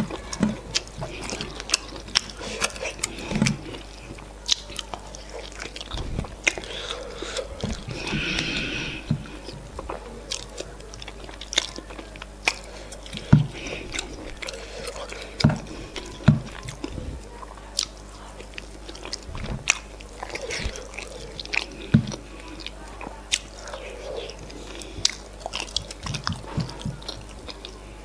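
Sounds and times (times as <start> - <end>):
wet chewing and lip smacks: 0.0 - 27.9.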